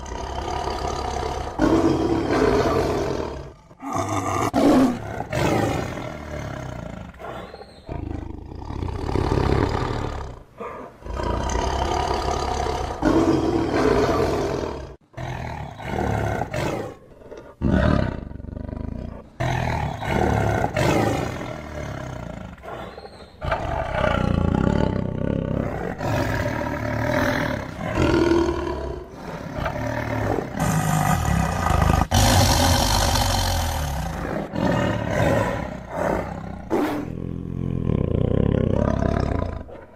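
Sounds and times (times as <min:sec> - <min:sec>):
tigers roaring: 0:00.0 - 0:39.9.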